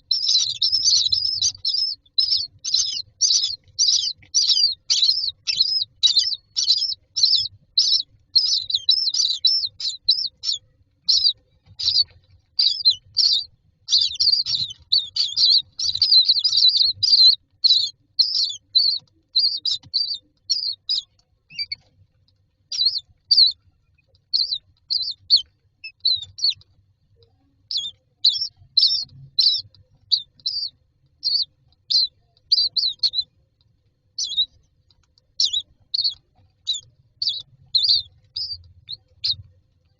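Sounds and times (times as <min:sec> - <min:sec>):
chicks begging calls: 0:00.0 - 0:21.9, 0:22.6 - 0:26.6, 0:27.6 - 0:33.3, 0:34.1 - 0:34.7, 0:35.3 - 0:39.5.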